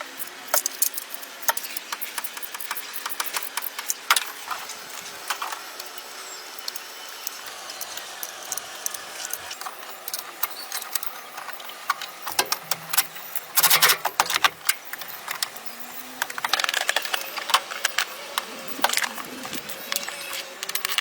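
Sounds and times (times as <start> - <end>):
mechanical clicks and clatters: 0.0 - 21.0.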